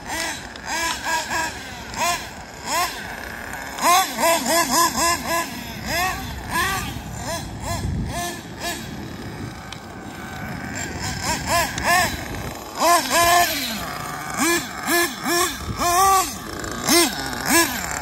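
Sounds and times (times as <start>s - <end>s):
model engine revving: 0.0s - 18.0s.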